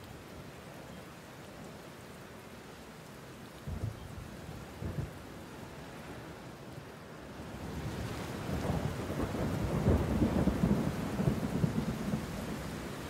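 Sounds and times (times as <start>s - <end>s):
rain-like hiss: 0.0s - 13.0s.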